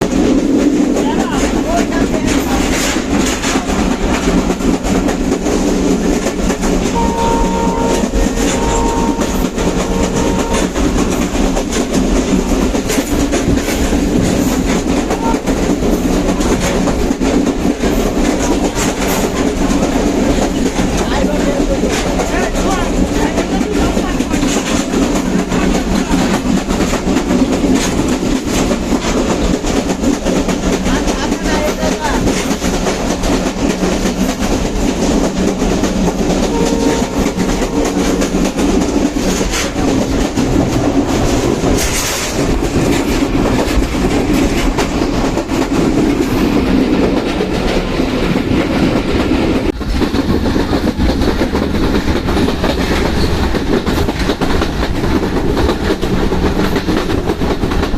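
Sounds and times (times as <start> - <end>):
train wheels clattering over rail joints: 0.0 - 57.9.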